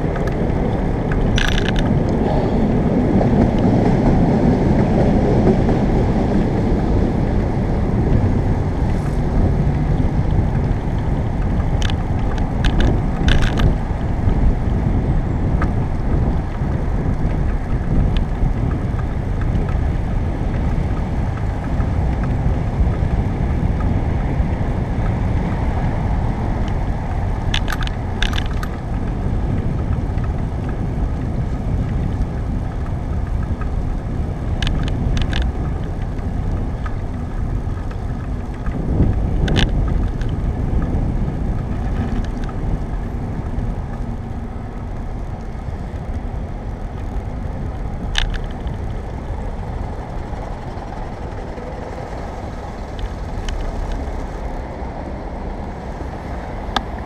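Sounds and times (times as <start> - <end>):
bike rattling over bumps: 0.0 - 57.0
road traffic: 0.0 - 57.0
tyres on pavement: 0.0 - 57.0
wind rumble on microphone: 0.0 - 57.0.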